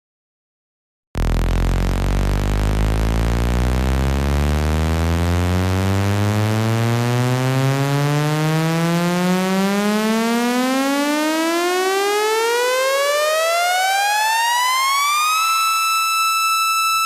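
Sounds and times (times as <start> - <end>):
rising buzzy tone sweep: 1.2 - 17.0.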